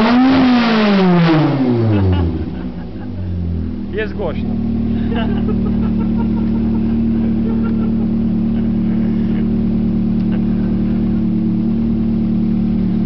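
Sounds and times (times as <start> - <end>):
four-cylinder engine running: 0.0 - 13.0.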